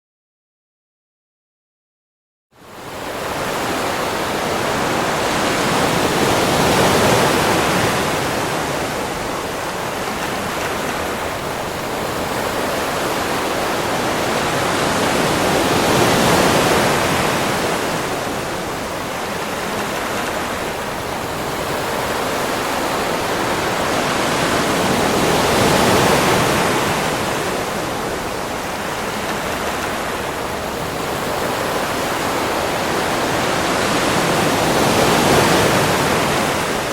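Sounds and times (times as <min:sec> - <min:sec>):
ocean waves breaking: 0:02.7 - 0:36.9.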